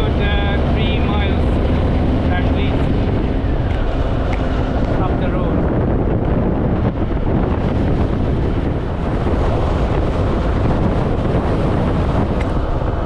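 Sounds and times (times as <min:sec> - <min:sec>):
loud wind rush on microphone: 0:00.0 - 0:13.0
road noise: 0:00.0 - 0:13.0.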